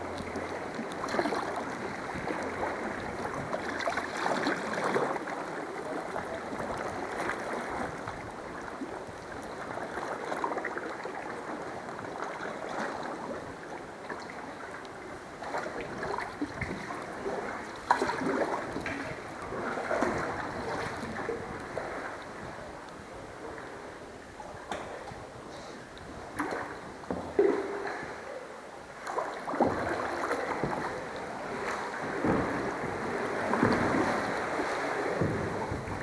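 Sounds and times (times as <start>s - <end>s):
water splashing around kayak: 0.0s - 36.0s.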